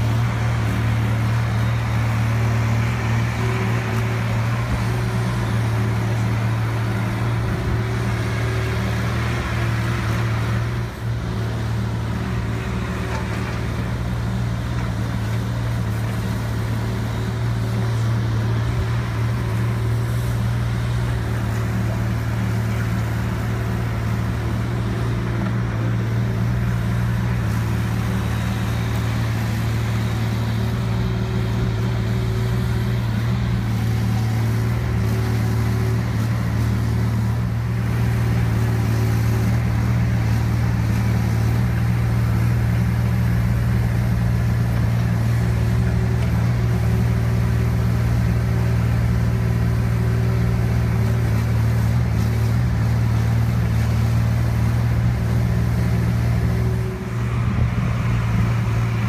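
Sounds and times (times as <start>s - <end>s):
diesel engine droning: 0.0s - 59.0s
excavator bucket digging soil: 0.0s - 59.0s.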